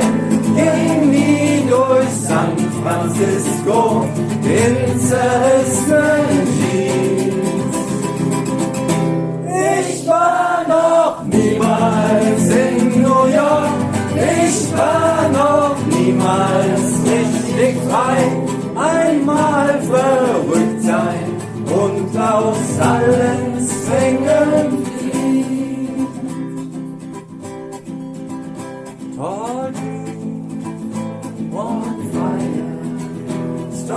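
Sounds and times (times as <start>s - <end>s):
people singing: 0.0s - 8.7s, 9.4s - 26.7s, 31.4s - 33.9s
acoustic guitar: 0.0s - 33.9s.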